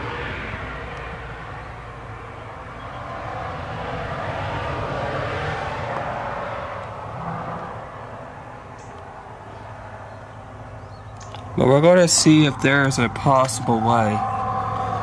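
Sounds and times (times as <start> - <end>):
passing vehicle engine: 0.0 - 15.0.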